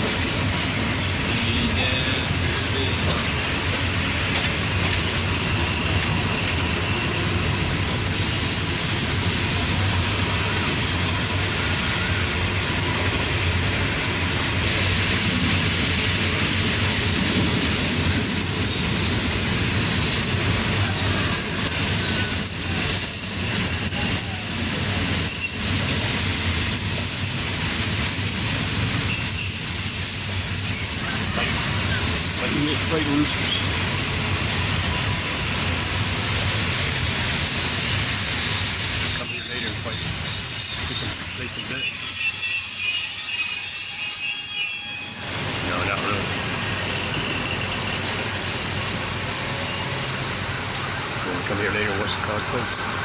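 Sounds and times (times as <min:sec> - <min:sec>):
train rumbling and rattling: 0:00.0 - 0:53.0
train wheel squeal: 0:00.0 - 0:53.0.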